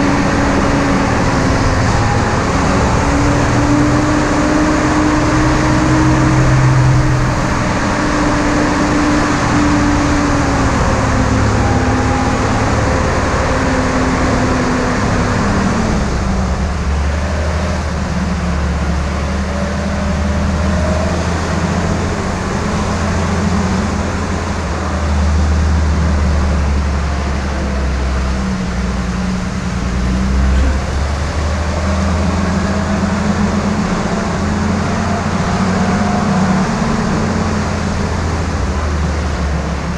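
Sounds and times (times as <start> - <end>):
engine running at low speed: 0.0 - 39.9.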